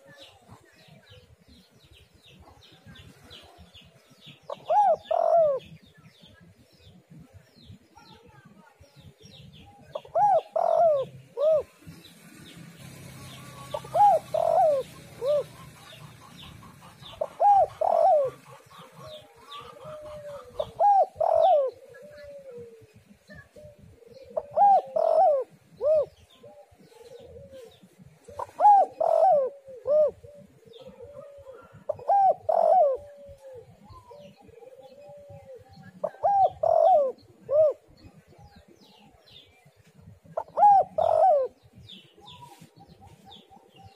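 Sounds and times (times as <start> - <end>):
small birds chirping: 0.0 - 43.9
dove cooing: 3.2 - 5.8, 9.6 - 39.5, 40.2 - 43.9.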